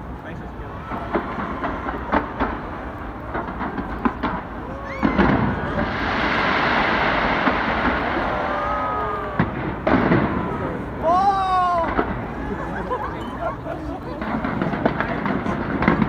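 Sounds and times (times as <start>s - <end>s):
fireworks popping and crackling: 0.1s - 16.0s.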